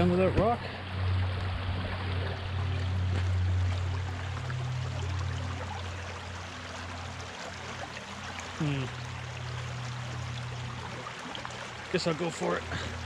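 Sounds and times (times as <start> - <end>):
creek water rushing and splashing: 0.0 - 13.0
steady low rumble: 0.0 - 13.0.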